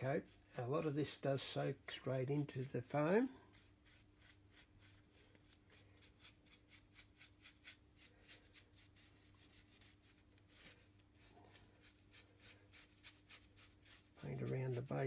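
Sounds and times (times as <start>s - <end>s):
paintbrush scratching: 0.0s - 15.0s.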